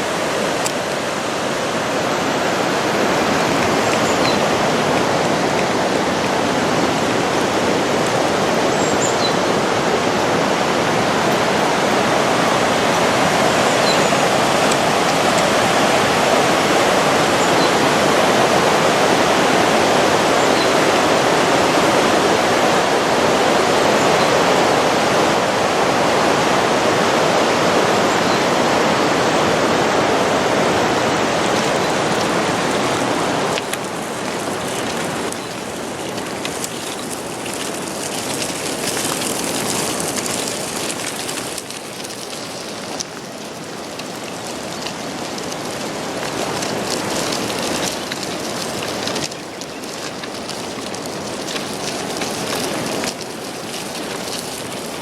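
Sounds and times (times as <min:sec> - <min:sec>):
water flowing: 0:00.0 - 0:55.0.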